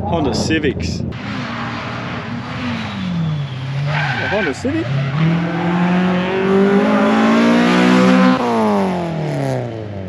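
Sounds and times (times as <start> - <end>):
car engine accelerating past: 1.2 - 10.0.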